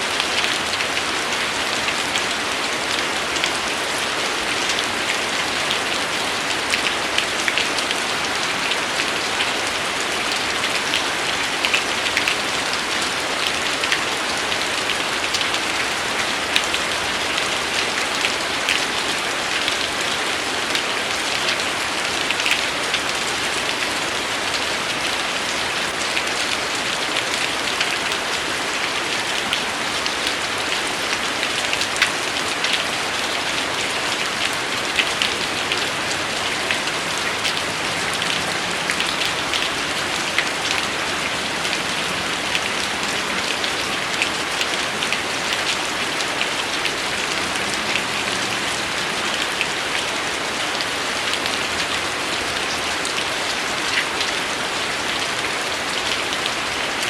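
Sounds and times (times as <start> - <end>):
raindrops ticking on a surface: 0.0 - 57.0
steady rain hissing: 0.0 - 57.0.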